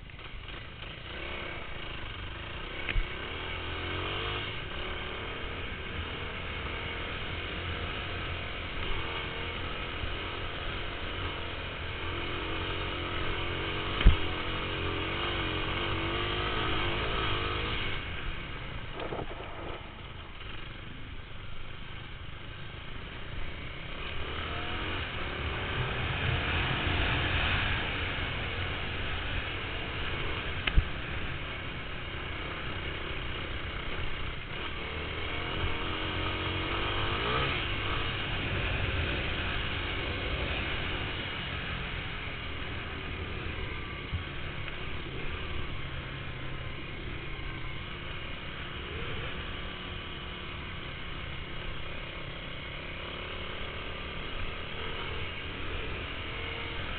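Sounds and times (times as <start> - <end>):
motocross bike engine revving: 0.9 - 19.7, 23.5 - 56.9.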